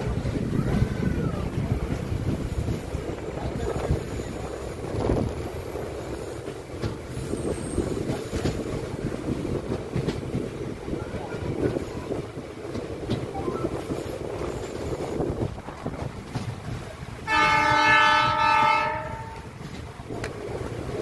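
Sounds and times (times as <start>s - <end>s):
train coaches rumbling: 0.0s - 21.0s
wheels knocking on rails: 0.0s - 21.0s.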